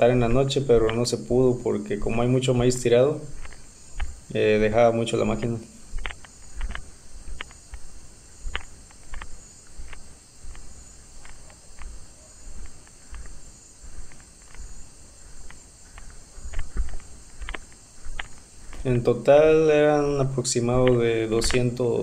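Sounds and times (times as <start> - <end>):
footsteps crunching dry leaves: 0.0 - 21.7
crickets and insects chirring: 0.0 - 22.0
scattered clicks: 0.2 - 22.0.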